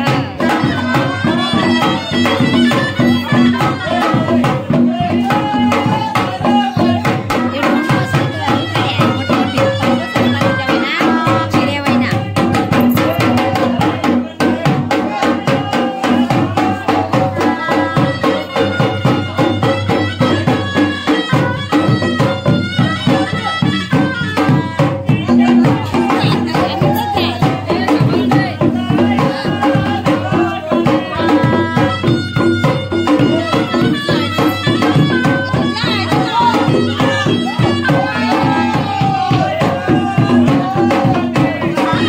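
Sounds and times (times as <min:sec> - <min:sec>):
fast dense drumming: 0:00.0 - 0:42.0.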